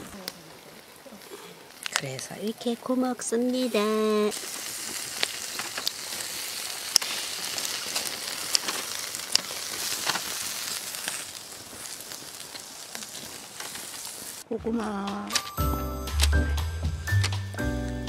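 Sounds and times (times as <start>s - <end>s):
meat sizzling on a grill: 0.0s - 14.5s.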